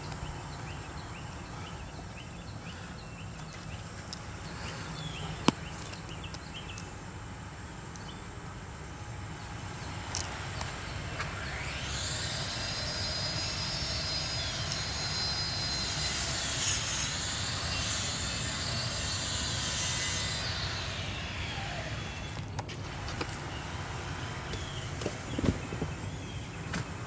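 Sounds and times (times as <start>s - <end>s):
high engine whine: 3.5s - 27.0s.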